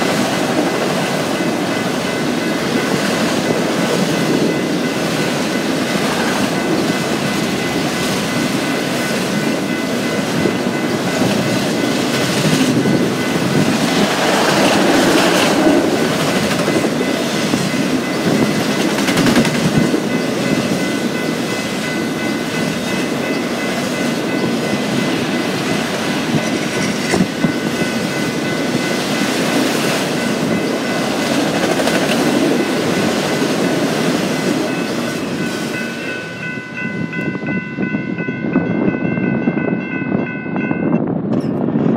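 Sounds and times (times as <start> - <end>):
crossing bell ringing: 0.0 - 41.8
train wheels rumbling on rails: 0.0 - 41.9.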